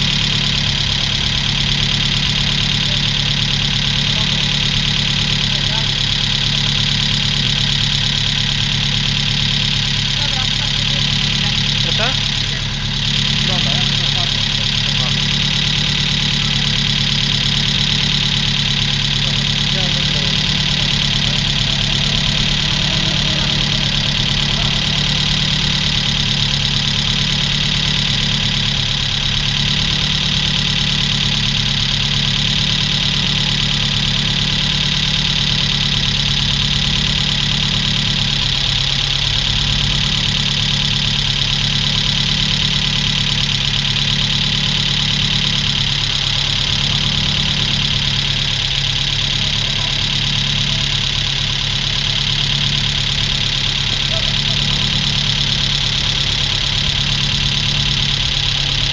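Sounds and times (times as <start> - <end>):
car engine idling: 0.0 - 58.9.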